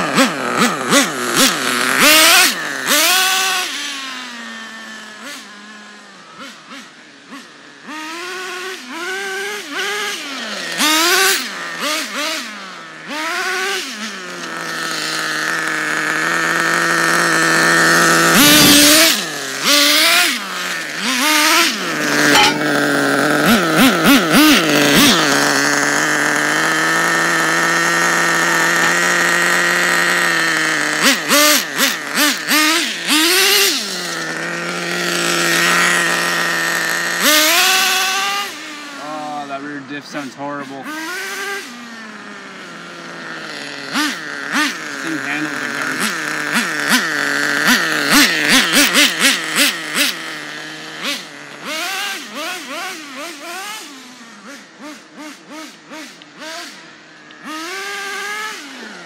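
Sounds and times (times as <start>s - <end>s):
small two-stroke engine revving: 0.0s - 59.0s.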